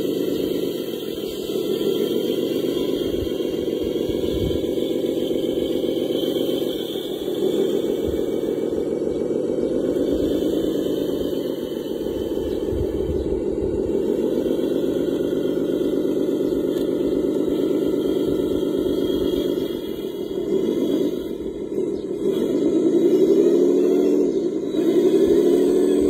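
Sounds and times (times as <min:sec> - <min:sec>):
model machinery engine drone: 0:00.0 - 0:26.0.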